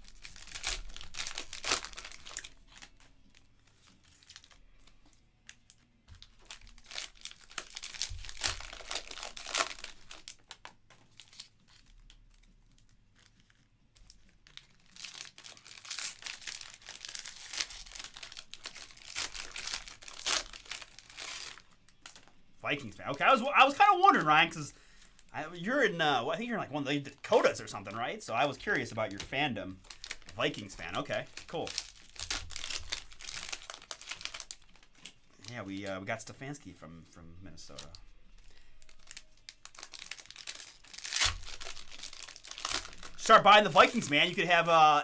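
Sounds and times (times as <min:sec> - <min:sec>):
wrappers torn open: 0:00.0 - 0:25.6, 0:29.7 - 0:35.6, 0:37.7 - 0:44.4
plastic wrappers crinkling: 0:00.0 - 0:36.1, 0:37.5 - 0:45.0.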